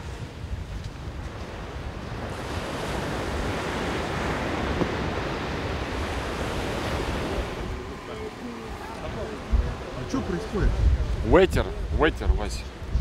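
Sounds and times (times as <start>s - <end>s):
ocean surf breaking: 0.0s - 13.0s
wind rumbling on microphone: 0.0s - 13.0s.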